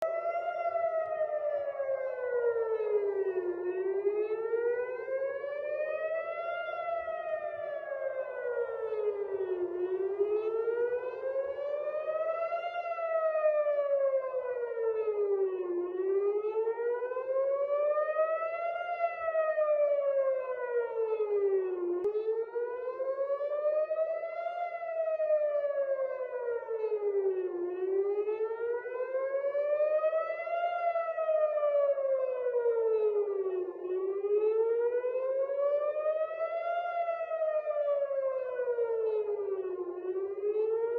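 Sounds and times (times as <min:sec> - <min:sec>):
air raid siren rising and falling: 0:00.0 - 0:40.9.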